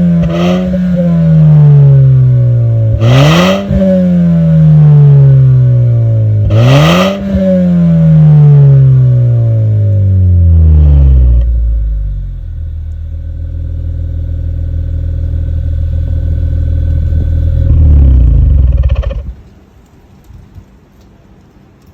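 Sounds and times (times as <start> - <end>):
car engine revving and idling: 0.0 - 19.4.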